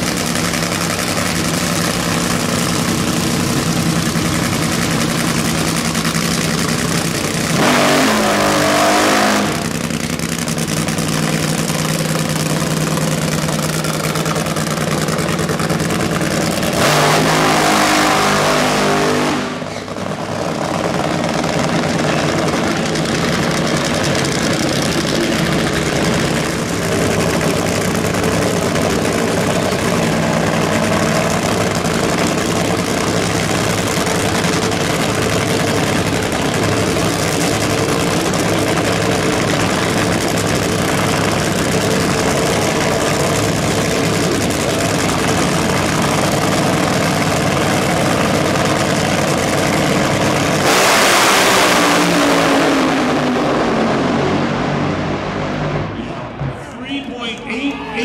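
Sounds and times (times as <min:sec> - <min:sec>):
drag car engines idling: 0:00.0 - 0:08.6, 0:09.4 - 0:17.3, 0:19.4 - 0:50.7
engines launching at full throttle: 0:02.0 - 0:11.0, 0:15.8 - 0:56.4.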